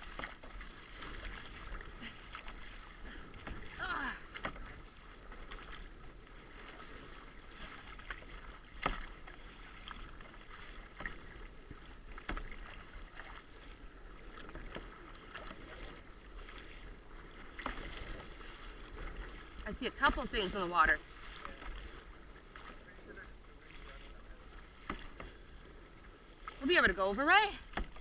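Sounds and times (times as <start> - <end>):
paddle strokes splashing: 0.0 - 28.0
water slapping kayak hull: 0.0 - 28.0.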